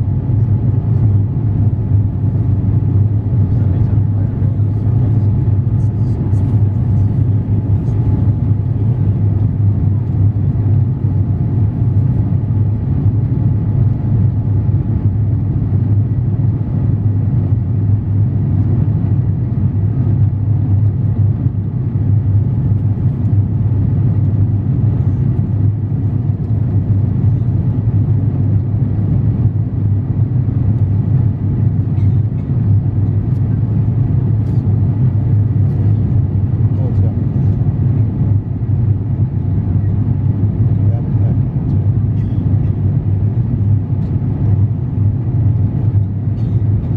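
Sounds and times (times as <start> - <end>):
aircraft cabin drone: 0.0 - 46.9
faint steady whine: 0.0 - 46.9.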